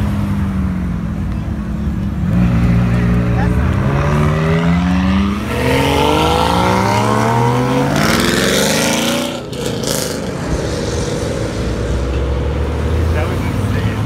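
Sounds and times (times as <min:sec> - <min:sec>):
traffic engine noise: 0:00.0 - 0:14.0
sports car engine accelerating: 0:00.1 - 0:14.0.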